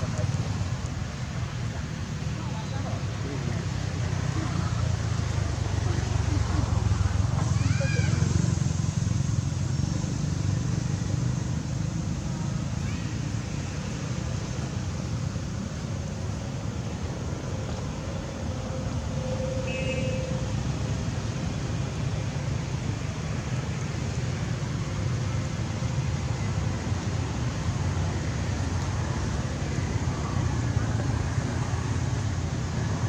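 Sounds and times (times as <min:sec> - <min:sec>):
road traffic rumble: 0:00.0 - 0:33.0.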